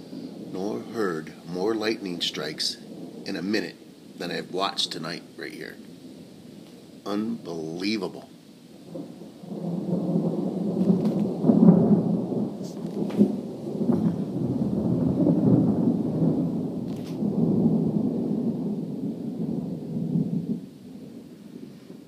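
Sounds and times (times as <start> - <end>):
rolling thunder rumble: 0.0 - 22.0.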